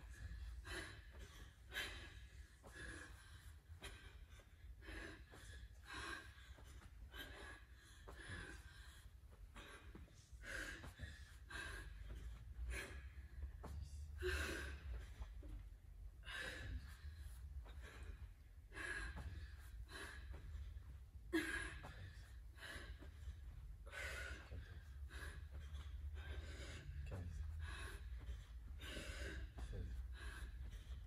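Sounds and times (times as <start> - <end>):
woman breathing hard: 0.0 - 31.0.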